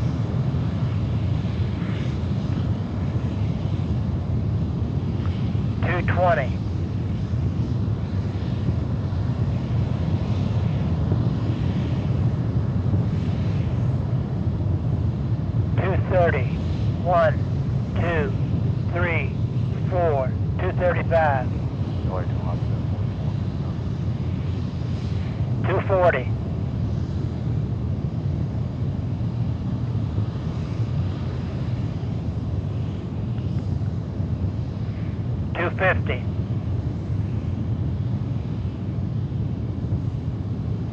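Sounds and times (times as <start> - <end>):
rocket engine rumble: 0.0 - 40.9.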